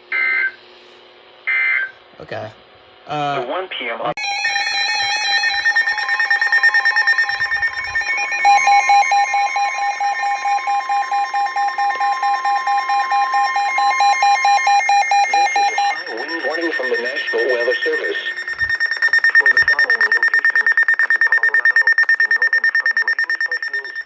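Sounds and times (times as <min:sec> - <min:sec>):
rapid loud alarm beeping: 0:04.2 - 0:24.0
steady alarm tone: 0:04.2 - 0:24.0.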